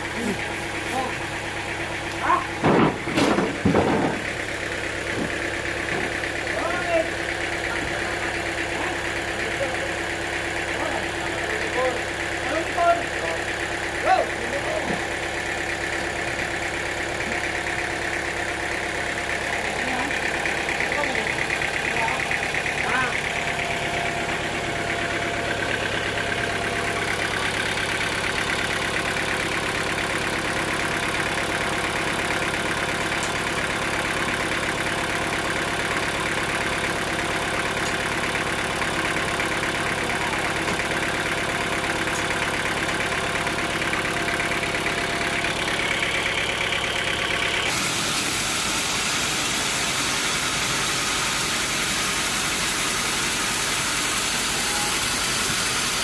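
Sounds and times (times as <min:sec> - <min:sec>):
sawmill machinery engine running: 0:00.0 - 0:56.0.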